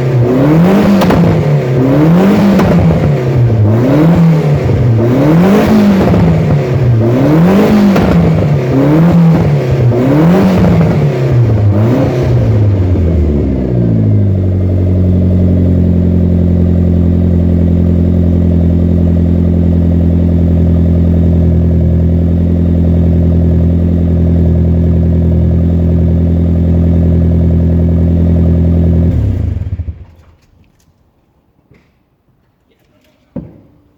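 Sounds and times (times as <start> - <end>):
car engine revving: 0.0 - 30.1
car engine idling: 0.0 - 30.2.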